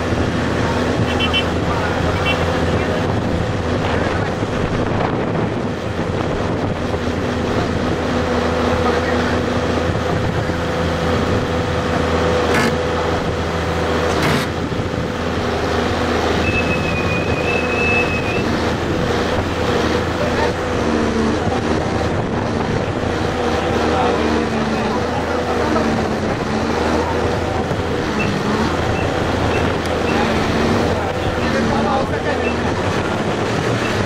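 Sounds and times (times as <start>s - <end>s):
excavator engine running: 0.0s - 34.0s.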